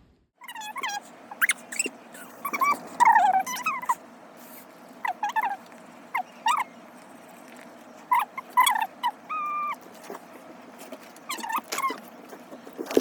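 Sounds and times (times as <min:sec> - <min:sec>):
high-pitched animal calls: 0:00.4 - 0:13.0.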